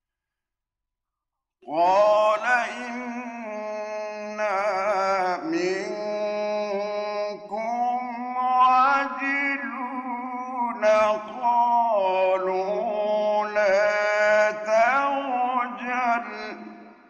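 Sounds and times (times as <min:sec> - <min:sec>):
man reciting melodically: 0:01.6 - 0:17.0.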